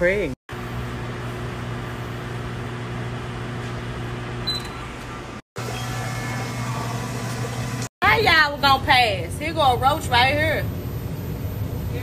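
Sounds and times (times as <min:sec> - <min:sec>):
kitchen equipment electrical hum: 0:00.0 - 0:12.0.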